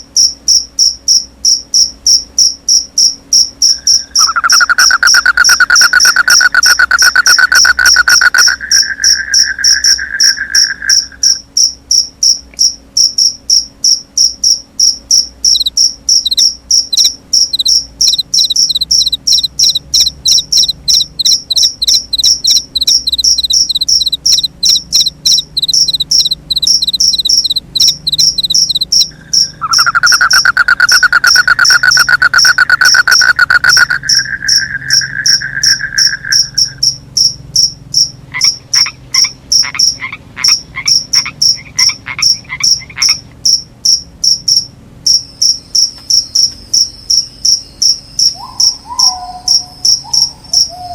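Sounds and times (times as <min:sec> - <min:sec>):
crickets chirping: 0:00.0 - 0:50.9.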